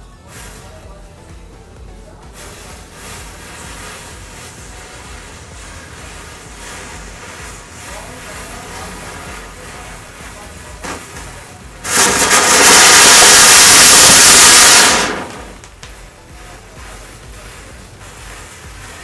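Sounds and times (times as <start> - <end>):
faint background music: 0.0 - 13.8, 14.5 - 19.0
fountain firework hissing: 2.3 - 19.0.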